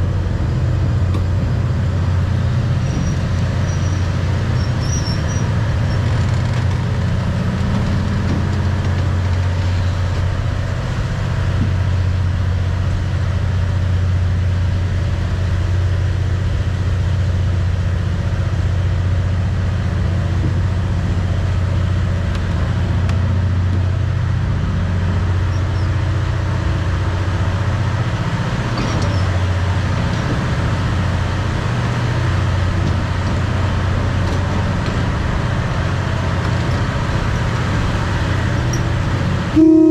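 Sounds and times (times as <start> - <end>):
low vehicle engine drone: 0.0 - 39.9.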